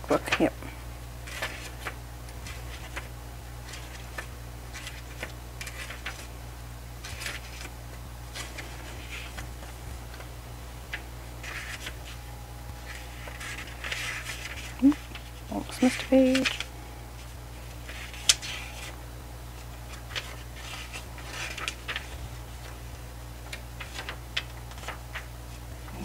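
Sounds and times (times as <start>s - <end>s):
steady low hum: 0.0s - 26.0s
paper pages turning: 1.2s - 6.3s, 7.0s - 10.3s, 10.9s - 12.2s, 12.8s - 19.0s, 19.6s - 26.0s.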